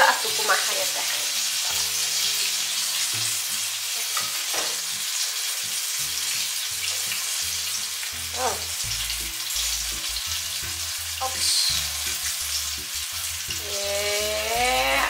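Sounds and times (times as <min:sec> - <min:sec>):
hot oil sizzling in a pan: 0:00.0 - 0:15.0.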